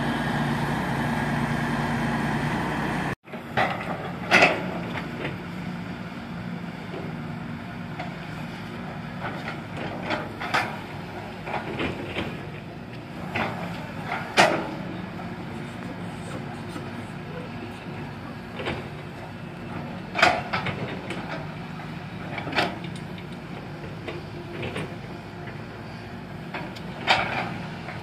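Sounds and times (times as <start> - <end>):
heavy diesel machinery running: 0.0 - 28.0
low engine hum: 0.0 - 28.0.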